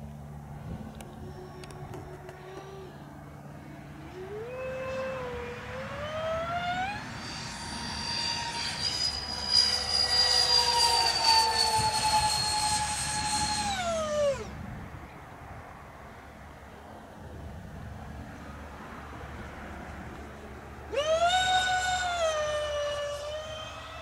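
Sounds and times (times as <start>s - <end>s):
electric ducted fans whining: 0.0s - 24.0s.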